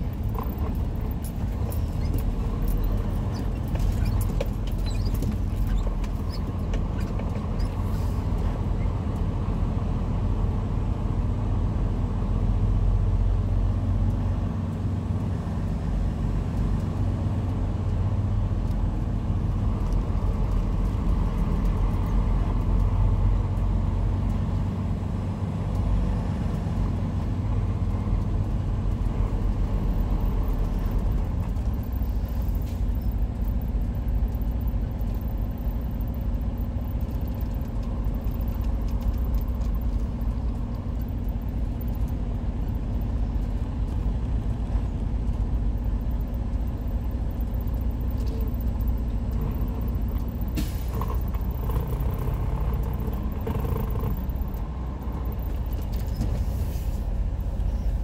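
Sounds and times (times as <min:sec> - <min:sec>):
truck diesel engine rumbling: 0:00.0 - 0:58.0.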